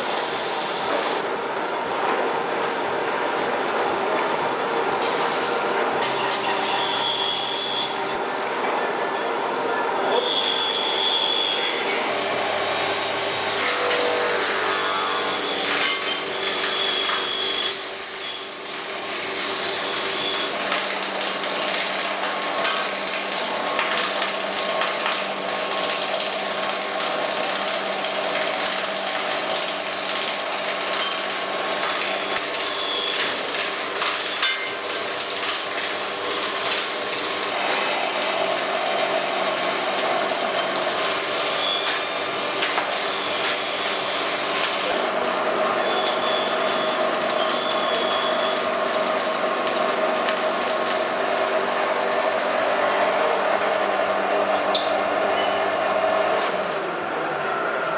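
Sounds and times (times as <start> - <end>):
log milling machine running: 6.0 - 8.2, 12.1 - 57.9.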